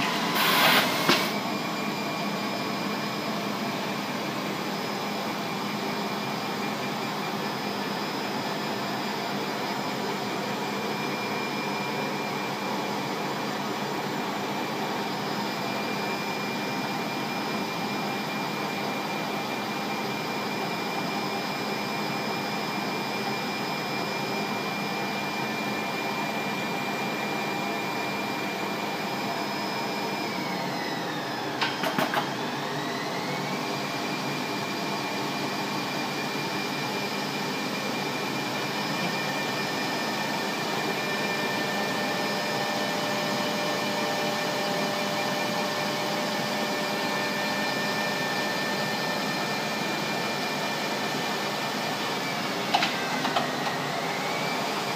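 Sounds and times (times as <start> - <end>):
knitting machine whirring and whining: 0.0 - 54.9.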